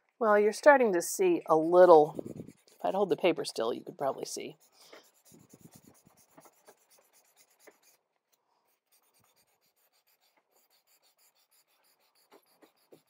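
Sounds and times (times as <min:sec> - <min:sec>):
sandpaper scratching on paper: 0:01.4 - 0:08.0, 0:08.7 - 0:13.0.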